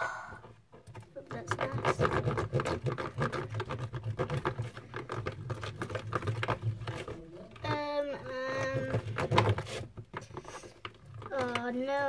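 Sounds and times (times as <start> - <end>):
spoon scraping plastic tub: 0.8 - 11.9.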